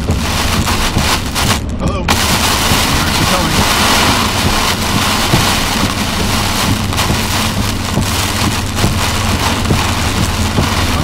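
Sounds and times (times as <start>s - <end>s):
heavy rain on vehicle windshield: 0.0s - 11.0s
vehicle road hum: 0.0s - 11.0s.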